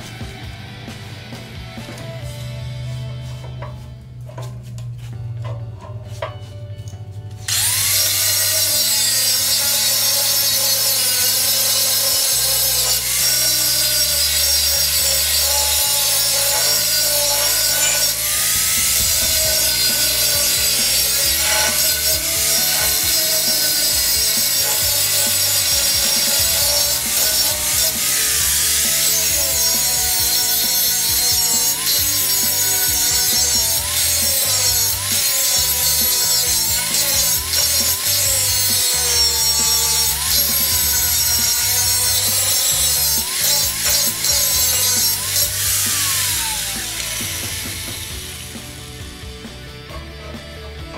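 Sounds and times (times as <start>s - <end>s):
angle grinder grinding metal: 1.2s - 50.9s.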